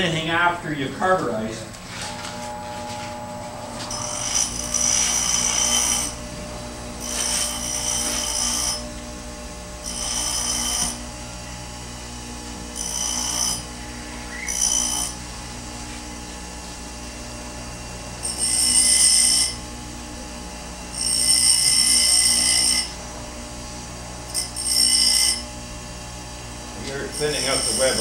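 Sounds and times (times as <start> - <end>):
grinding wheel humming: 0.0 - 28.0
drill bit grinding hiss: 2.1 - 28.0.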